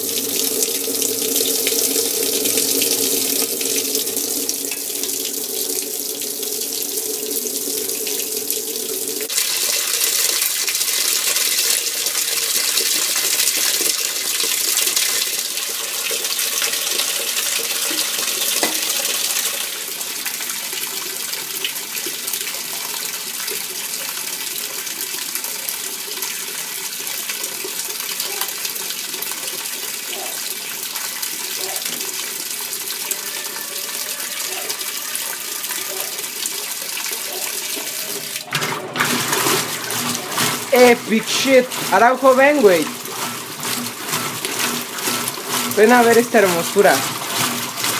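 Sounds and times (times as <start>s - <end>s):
water pouring into washing machine: 0.0s - 47.9s.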